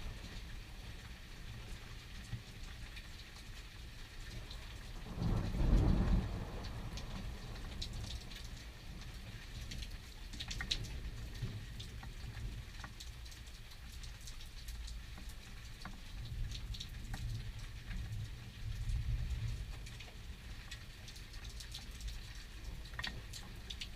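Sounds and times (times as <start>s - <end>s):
low steady rumble: 0.0s - 23.9s
rain pattering: 0.0s - 23.9s.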